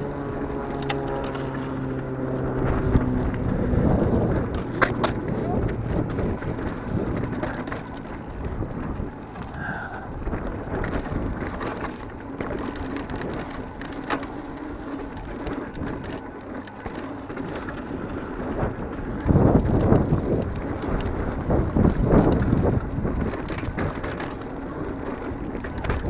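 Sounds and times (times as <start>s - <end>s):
wind on microphone: 0.0s - 16.2s, 17.2s - 26.0s
bike rattling over bumps: 0.0s - 26.0s.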